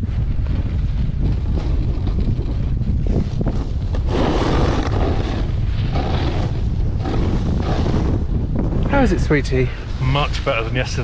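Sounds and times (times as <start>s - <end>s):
hissing rush of wind: 0.0s - 11.0s
wind buffeting microphone: 0.0s - 11.0s.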